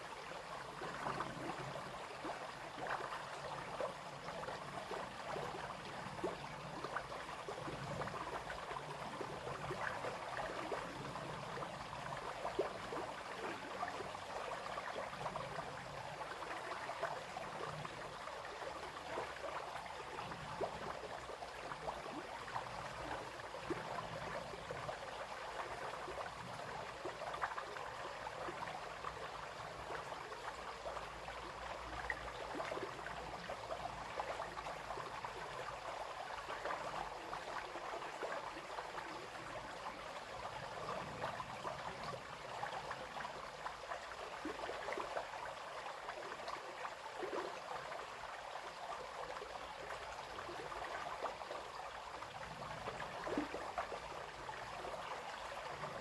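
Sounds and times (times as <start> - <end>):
brook babbling over stones: 0.0 - 56.0.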